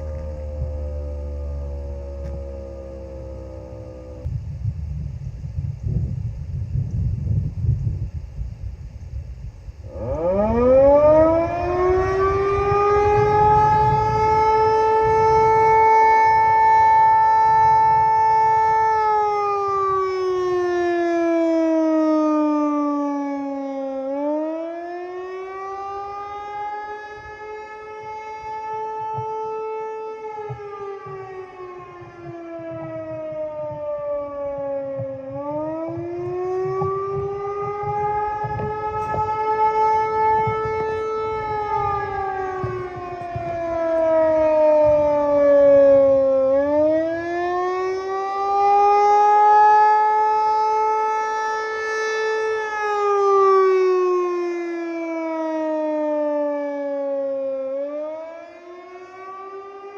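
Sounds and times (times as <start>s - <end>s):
wailing warning siren: 0.0s - 59.9s.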